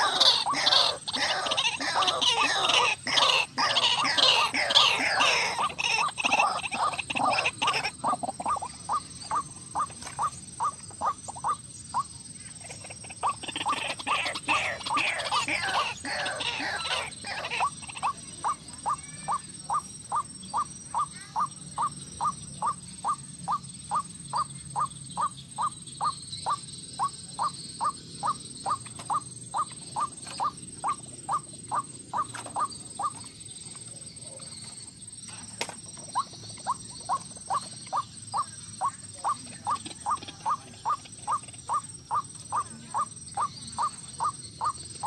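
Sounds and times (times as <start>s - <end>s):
waterhen calling: 0.0s - 33.2s, 36.1s - 44.8s.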